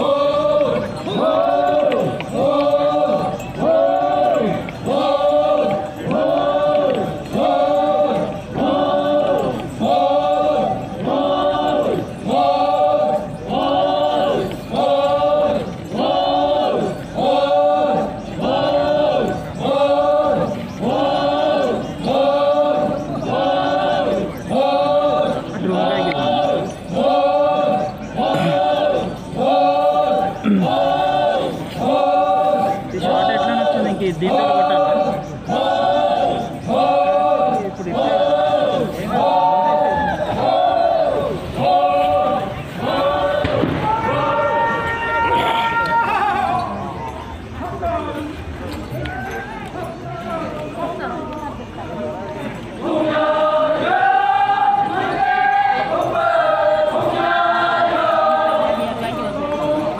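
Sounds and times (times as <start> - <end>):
group chanting in unison: 0.0 - 47.0, 52.8 - 59.9.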